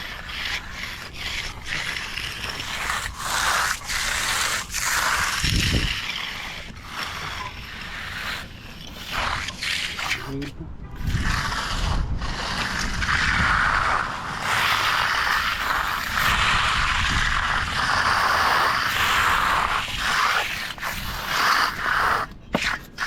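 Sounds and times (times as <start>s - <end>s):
tool scraping wet concrete: 0.0s - 23.0s.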